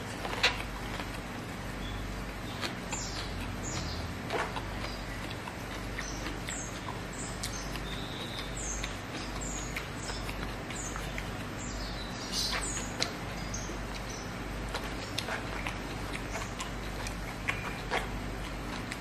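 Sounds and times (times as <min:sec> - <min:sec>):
man chewing food: 0:00.0 - 0:19.0
steady low hum: 0:00.0 - 0:19.0
small bird chirping: 0:01.7 - 0:18.1.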